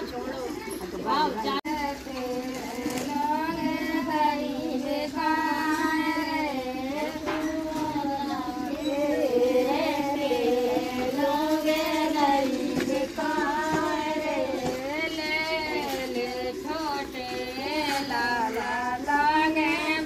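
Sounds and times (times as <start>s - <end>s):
woman singing: 1.1s - 20.0s.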